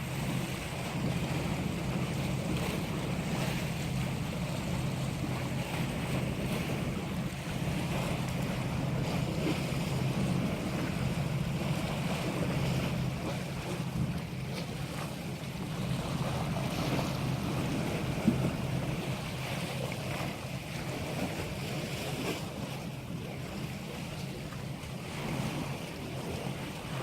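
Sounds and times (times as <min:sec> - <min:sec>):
constant low hum: 0:00.0 - 0:27.0
sea waves: 0:00.0 - 0:27.0
wind: 0:00.0 - 0:27.0
wind buffeting microphone: 0:00.0 - 0:27.0.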